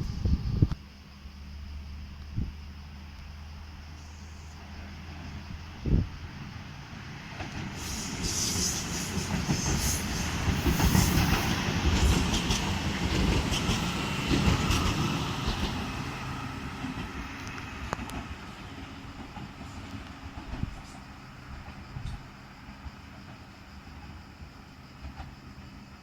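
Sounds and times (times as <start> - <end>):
train rumble and wheel clatter: 0.0 - 26.0.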